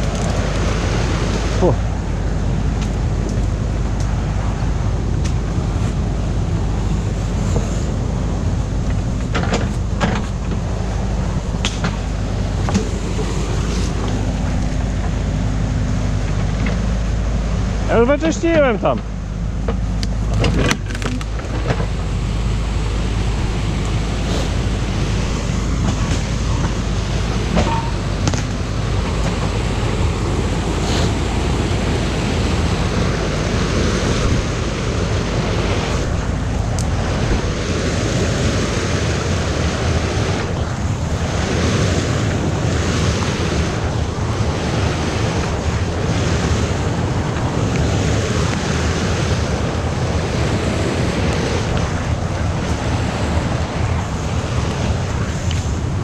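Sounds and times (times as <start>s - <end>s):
water rushing over a weir: 0.0s - 56.0s.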